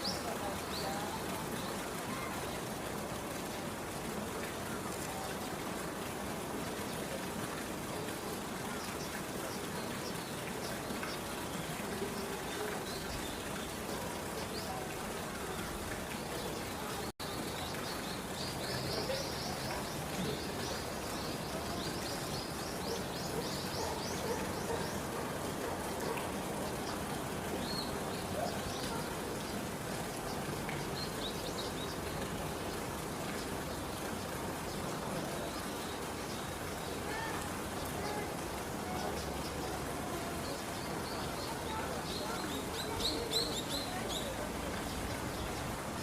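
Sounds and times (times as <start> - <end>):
small birds chirping: 0.0 - 2.7, 6.7 - 46.0
outdoor ambient hiss: 0.0 - 46.0.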